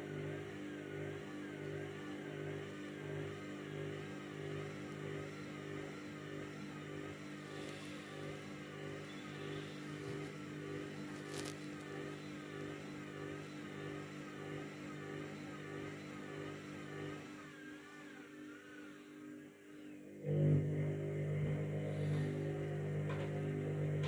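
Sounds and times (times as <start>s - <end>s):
washing machine drum motor whining: 0.0s - 24.0s.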